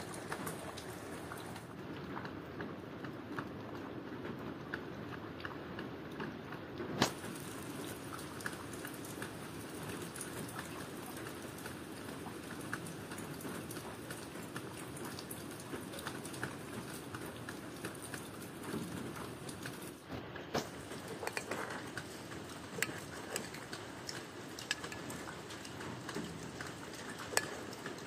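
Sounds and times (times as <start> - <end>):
rain pattering on hard surfaces: 0.0 - 28.0.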